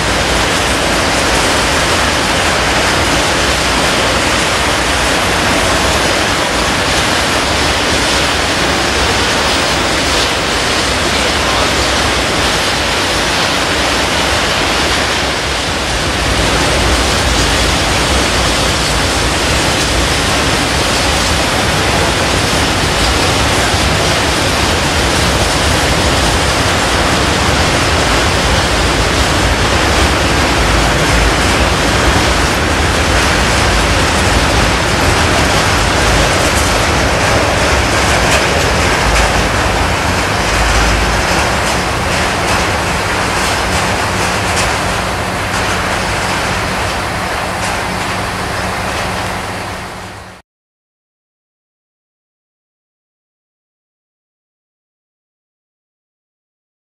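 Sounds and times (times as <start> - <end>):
freight train rolling past: 0.0 - 50.4.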